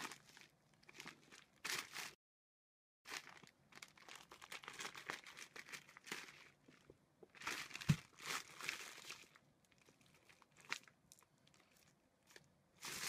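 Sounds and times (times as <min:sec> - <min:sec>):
plastic packaging crinkling: 0:00.0 - 0:02.2, 0:03.1 - 0:13.0.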